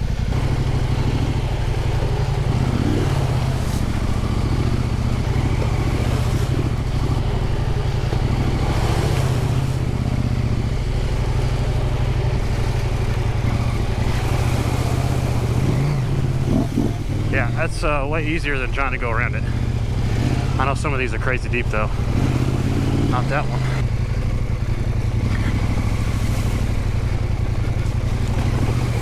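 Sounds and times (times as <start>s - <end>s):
motorcycle engine at low revs: 0.0s - 29.0s.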